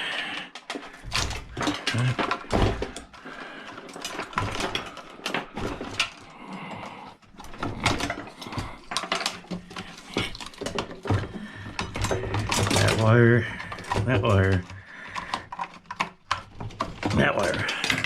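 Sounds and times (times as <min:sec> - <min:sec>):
metal parts clicking and clanking: 0:00.0 - 0:18.0.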